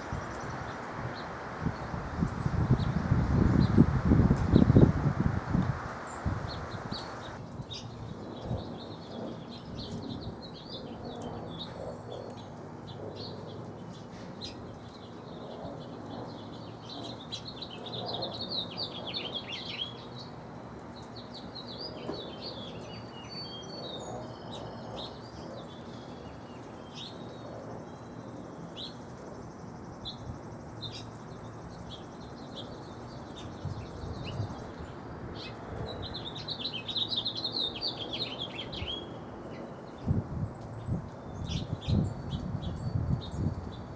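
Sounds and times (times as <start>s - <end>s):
songbirds chirping and twittering: 0.0s - 43.9s.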